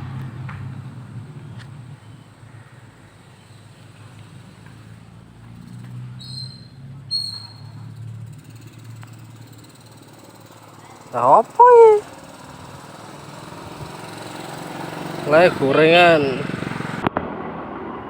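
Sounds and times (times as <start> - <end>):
vehicle engine rumbling: 0.0 - 17.1.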